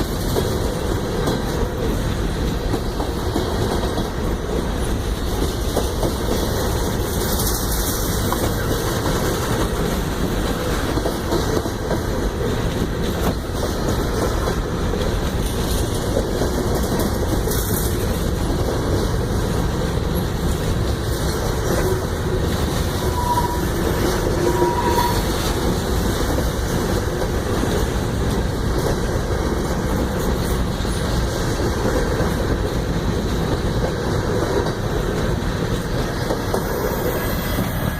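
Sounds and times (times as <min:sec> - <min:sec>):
train wheels rumbling on rails: 0:00.0 - 0:37.9
wheels clacking over rail joints: 0:00.0 - 0:37.9.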